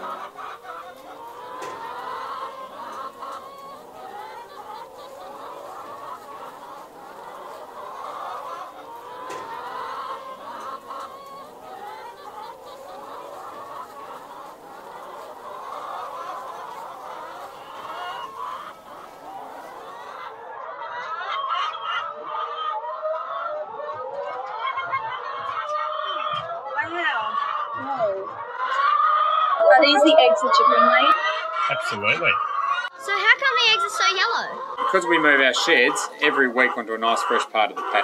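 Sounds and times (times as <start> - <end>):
hens clucking: 0.0 - 38.0.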